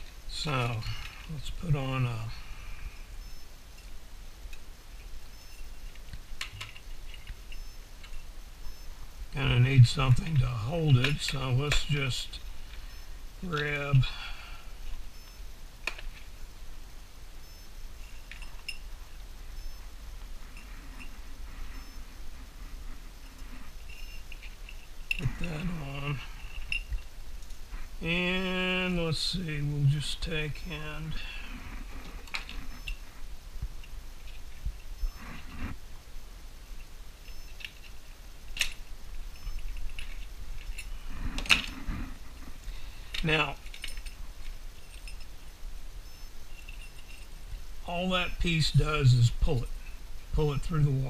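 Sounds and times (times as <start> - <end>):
quiet handling noise: 0.0 - 16.6, 17.3 - 51.0
low steady hum: 0.0 - 51.0.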